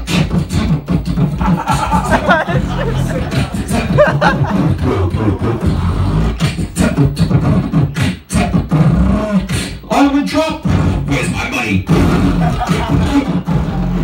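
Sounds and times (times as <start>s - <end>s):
deep bass: 0.0s - 14.0s
person beatboxing into microphone: 0.0s - 14.0s.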